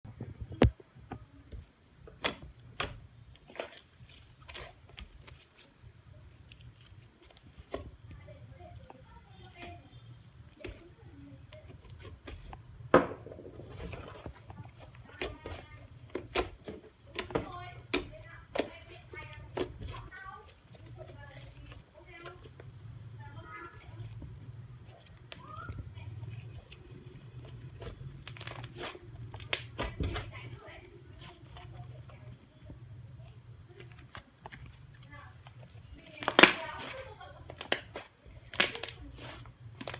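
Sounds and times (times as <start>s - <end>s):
slime squished by hand: 1.5s - 32.4s, 33.8s - 39.9s.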